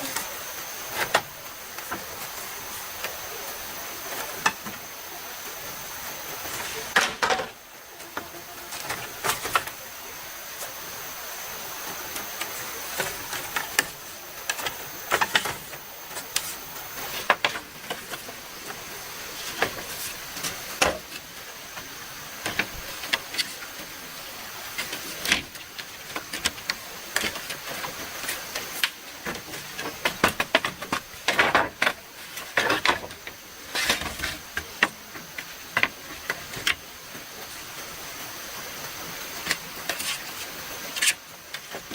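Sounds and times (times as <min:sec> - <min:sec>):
stream running: 0:00.0 - 0:41.9.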